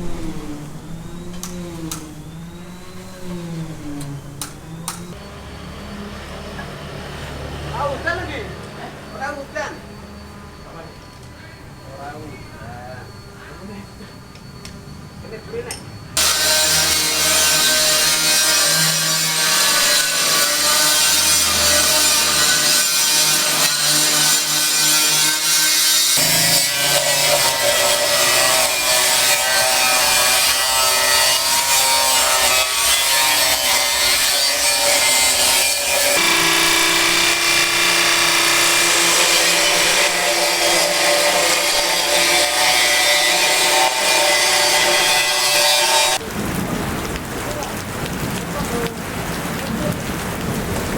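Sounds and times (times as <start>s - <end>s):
power tool cutting: 0.0s - 10.9s, 16.2s - 46.2s.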